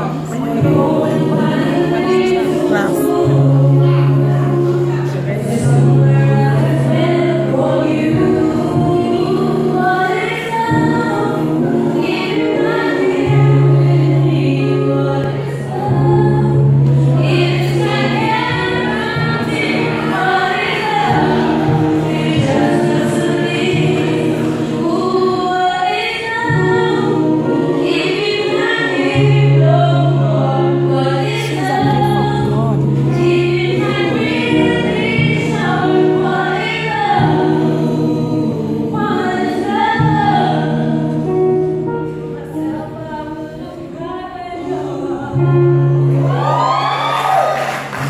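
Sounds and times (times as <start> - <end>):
woman singing into a microphone: 0.0 - 47.6
choir singing in harmony: 0.0 - 48.0.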